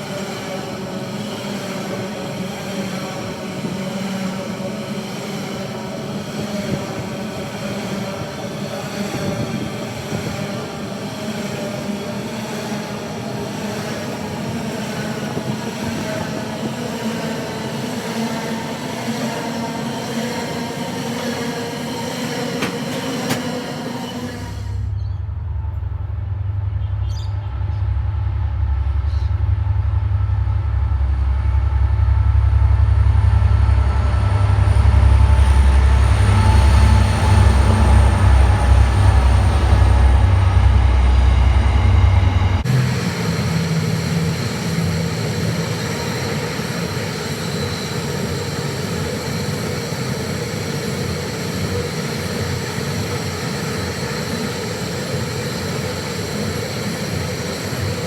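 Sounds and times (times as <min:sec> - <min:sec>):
train wheels rolling and ringing: 0:00.0 - 0:26.0, 0:31.3 - 0:58.0
freight train rumbling: 0:00.0 - 0:58.0.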